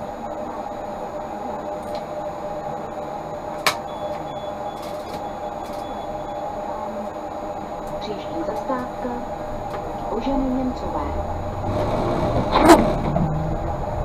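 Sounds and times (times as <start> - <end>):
tram rumbling: 0.0 - 14.0.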